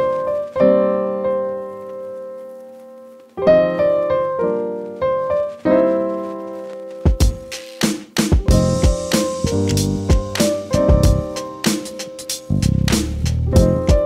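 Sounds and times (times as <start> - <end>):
piano chords ringing: 0.0 - 7.6, 8.4 - 12.9, 13.5 - 14.0.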